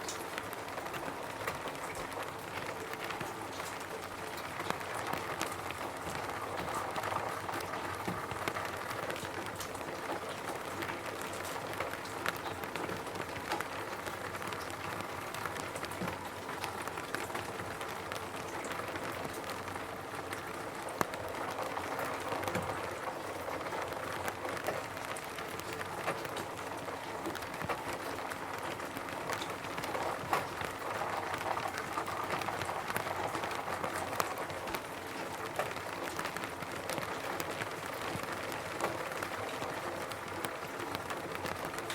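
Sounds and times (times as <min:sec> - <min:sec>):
rain on a roof: 0:00.0 - 0:41.9.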